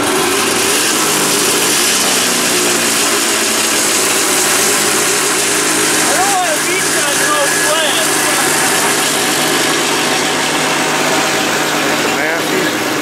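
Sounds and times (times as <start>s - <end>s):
snowmobile engine idling: 0.0s - 13.0s.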